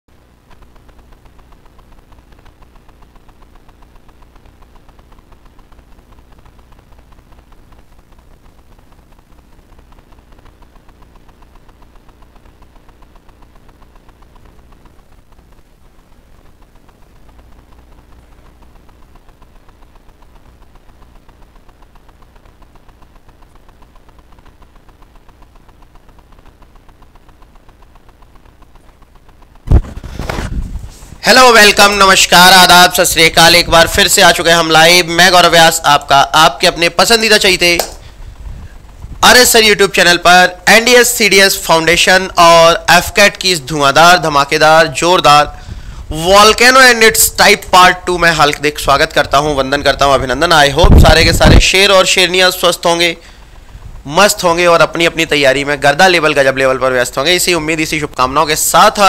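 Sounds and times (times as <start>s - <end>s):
faint pulsing machine hum: 0.1s - 59.0s.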